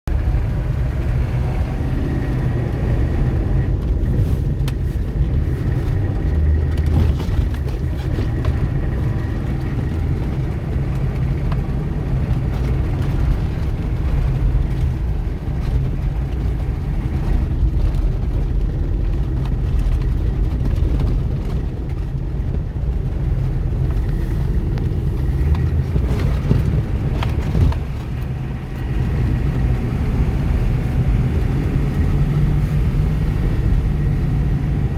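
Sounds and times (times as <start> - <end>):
vehicle engine drone: 0.1 - 34.9.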